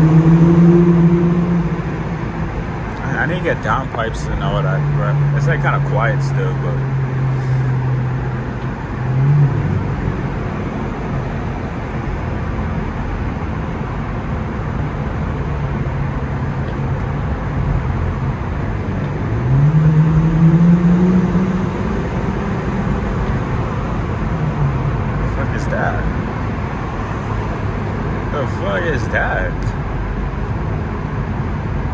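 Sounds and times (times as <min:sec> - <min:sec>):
car exhaust droning: 0:00.0 - 0:31.9
road noise: 0:00.0 - 0:31.9.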